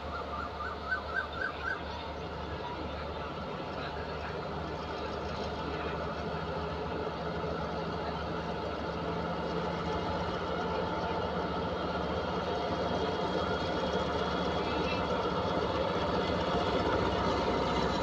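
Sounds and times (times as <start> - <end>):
diesel locomotive engine idling: 0.0 - 18.0.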